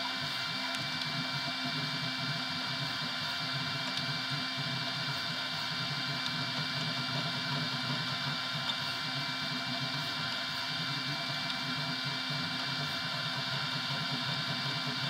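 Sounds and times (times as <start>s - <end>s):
three d printer whirring: 0.0s - 15.0s.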